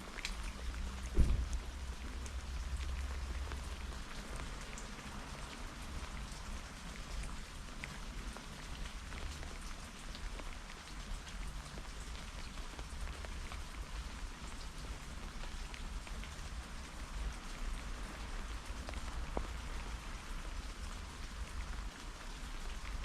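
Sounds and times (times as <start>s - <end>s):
raindrops ticking on surface: 0.0s - 23.0s.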